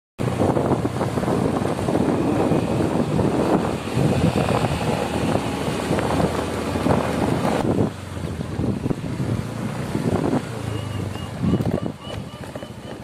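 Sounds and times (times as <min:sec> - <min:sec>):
motorcycle engine: 0:00.2 - 0:13.0
wind rushing over microphone: 0:00.2 - 0:13.0.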